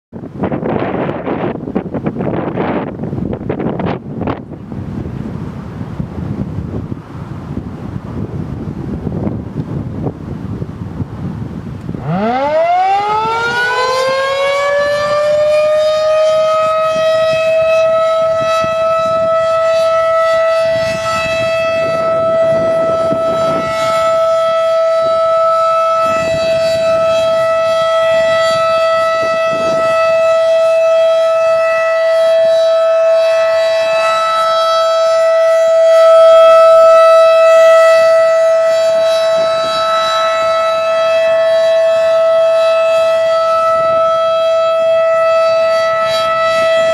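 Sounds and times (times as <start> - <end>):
warning siren steady tone: 0.2 - 46.9.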